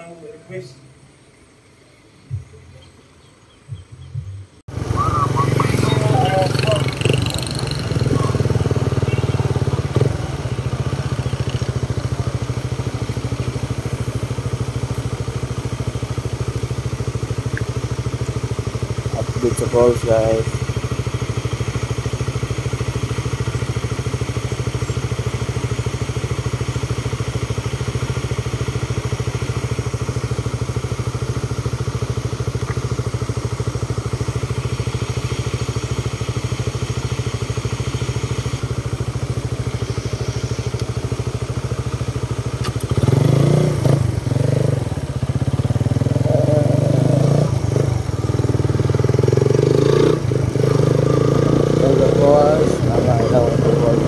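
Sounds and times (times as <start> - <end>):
motorcycle engine running: 2.2 - 54.0.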